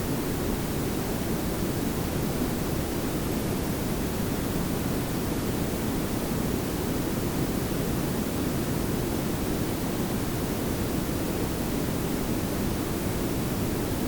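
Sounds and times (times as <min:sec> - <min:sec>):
steady noise hiss: 0:00.0 - 0:14.0.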